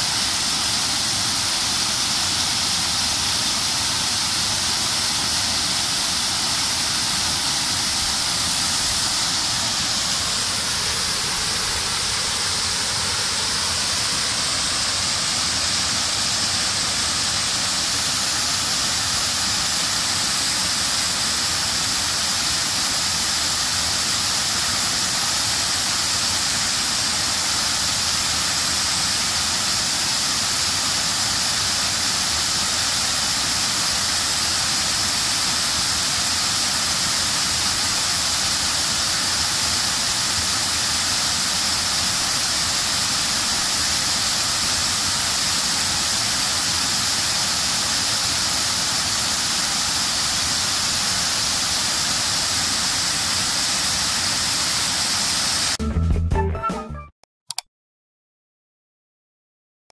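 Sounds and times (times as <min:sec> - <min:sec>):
water cascading over spillway: 0:00.0 - 0:55.8.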